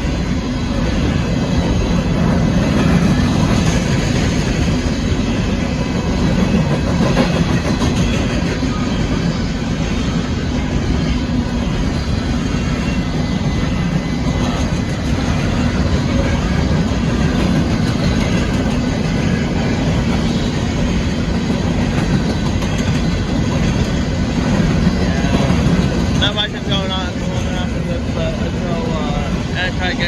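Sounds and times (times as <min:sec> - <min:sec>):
freight train rumbling past: 0:00.0 - 0:30.0
steel wheels clattering on rails: 0:00.0 - 0:30.0.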